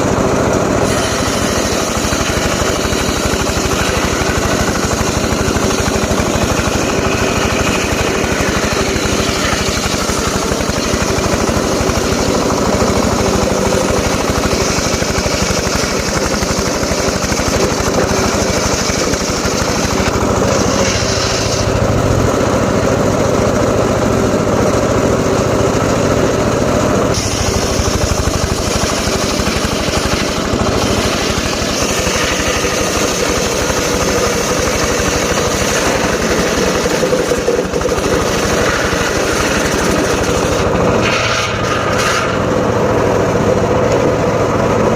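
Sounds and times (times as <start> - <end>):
saw cutting wood: 0.0 - 44.8
small engine running: 0.0 - 44.9.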